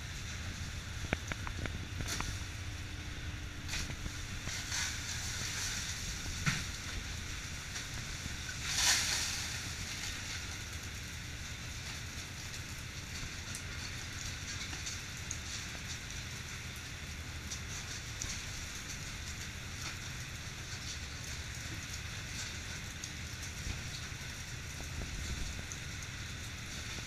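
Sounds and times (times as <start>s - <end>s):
boat engine droning: 0.0s - 27.0s
steady hiss: 0.0s - 27.0s.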